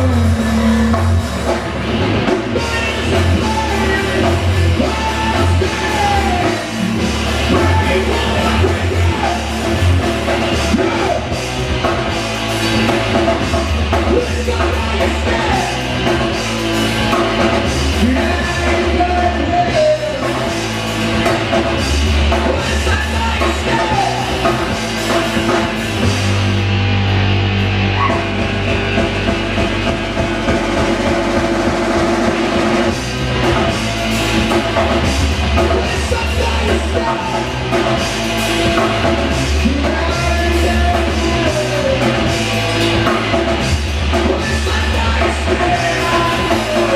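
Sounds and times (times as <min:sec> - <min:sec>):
drum kit: 0:00.0 - 0:46.9
live rock band playing: 0:00.0 - 0:46.9.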